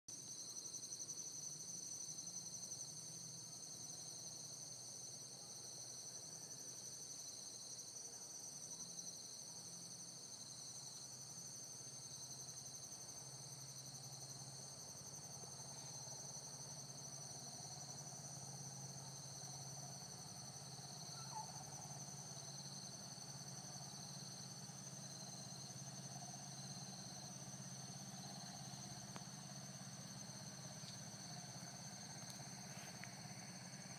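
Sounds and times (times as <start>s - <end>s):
insects trilling: 6.0s - 33.9s.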